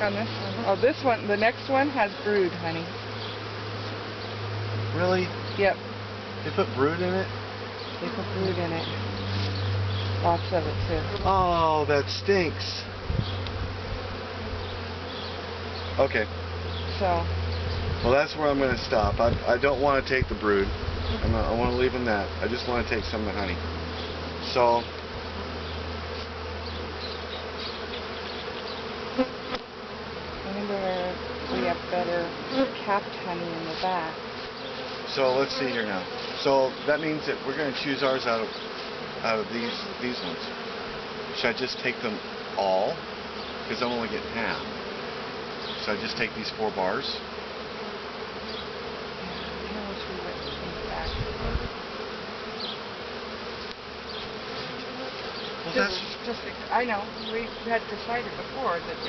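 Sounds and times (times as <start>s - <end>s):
bee flying past: 0.0s - 59.0s
honeybees buzzing: 0.0s - 59.0s.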